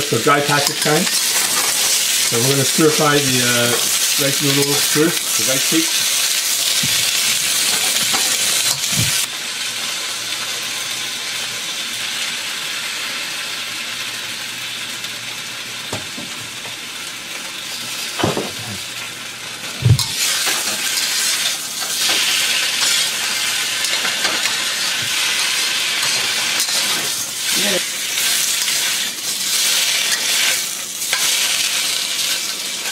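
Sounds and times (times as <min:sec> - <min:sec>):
food sizzling in hot oil: 0:00.0 - 0:32.9.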